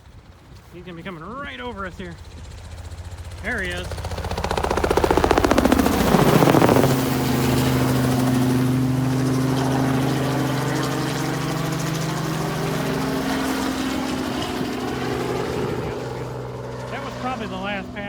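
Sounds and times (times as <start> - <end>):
helicopter droning hum: 0.0 - 18.0.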